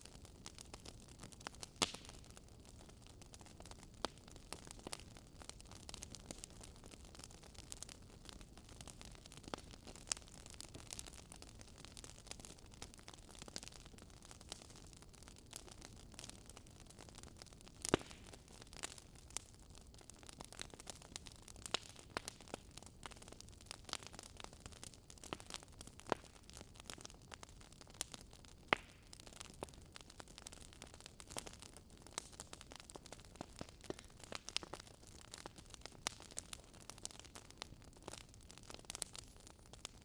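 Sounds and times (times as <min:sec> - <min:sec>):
firewood crackling and popping: 0:00.0 - 0:40.0.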